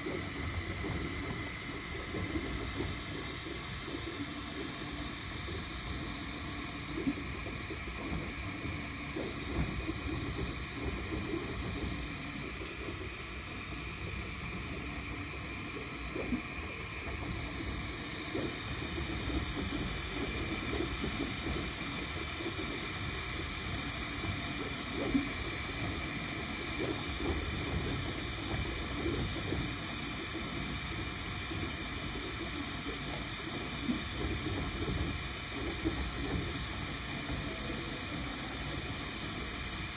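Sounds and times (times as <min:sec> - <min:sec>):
three d printer whirring: 0:00.0 - 0:39.9.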